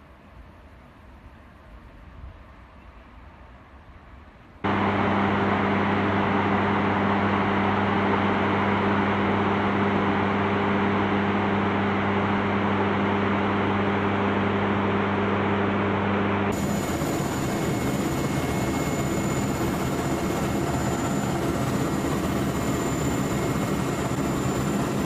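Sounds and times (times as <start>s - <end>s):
steady low hum: 4.6s - 25.0s.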